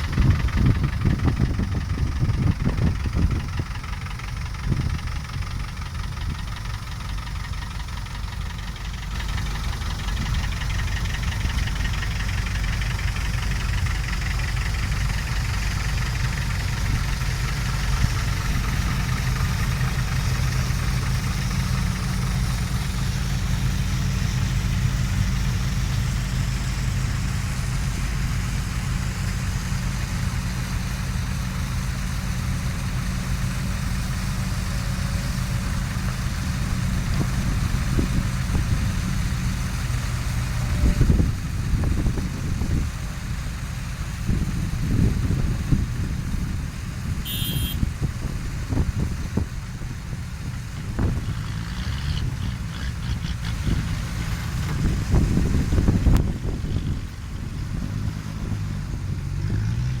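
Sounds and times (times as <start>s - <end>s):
excavator diesel engine running: 0.0s - 60.0s.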